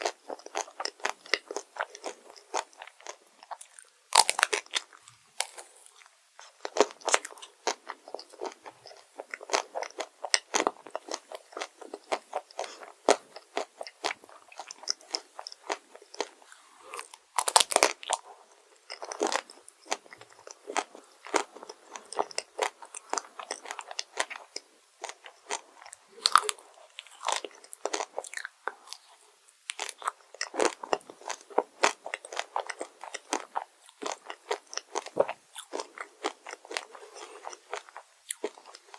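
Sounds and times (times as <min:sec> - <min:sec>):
crunchy biting and chewing: 0:00.0 - 0:38.9.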